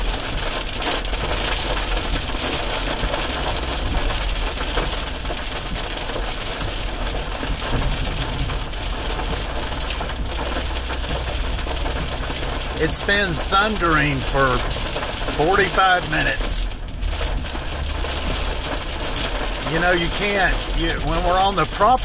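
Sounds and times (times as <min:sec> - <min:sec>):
heavy rain on car windshield: 0:00.0 - 0:22.0
low hum of moving car: 0:00.0 - 0:22.0.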